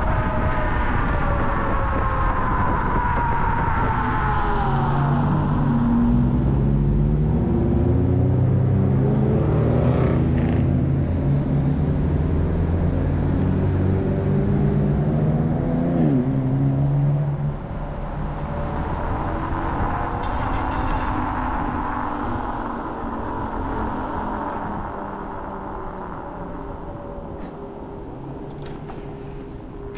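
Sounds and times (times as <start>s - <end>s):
tyre road noise: 0.0s - 29.9s
wind noise: 0.0s - 29.9s.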